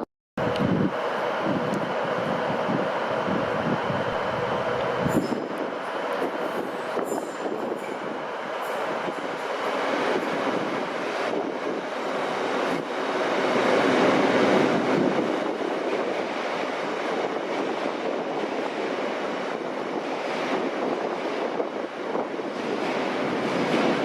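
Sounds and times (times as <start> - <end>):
train passing by: 0.4 - 24.0.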